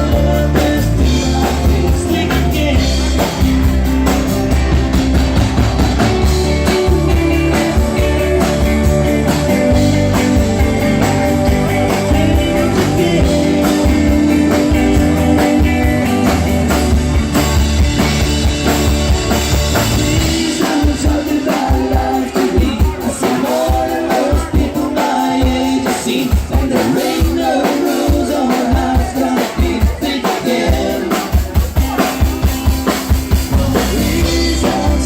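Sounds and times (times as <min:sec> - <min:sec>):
bass and drums: 0:00.0 - 0:35.0
electric guitar: 0:00.0 - 0:35.0.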